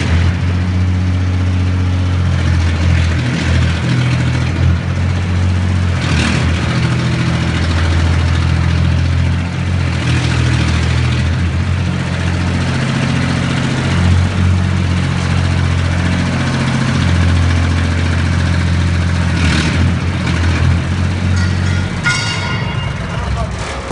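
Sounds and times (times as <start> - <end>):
pile driver engine running: 0.0 - 23.9.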